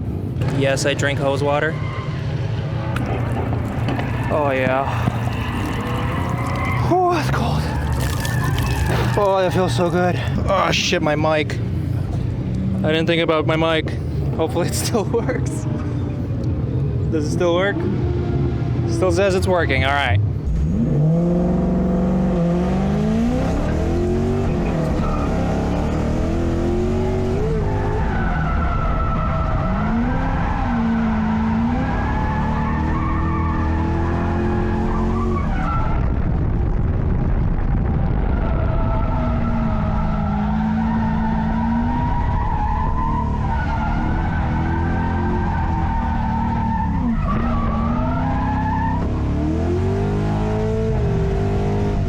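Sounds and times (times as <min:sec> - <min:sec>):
tyres skidding and squealing: 0:00.0 - 0:36.3, 0:38.1 - 0:52.0
car engine revving: 0:00.3 - 0:13.9, 0:15.6 - 0:35.6, 0:37.8 - 0:52.0.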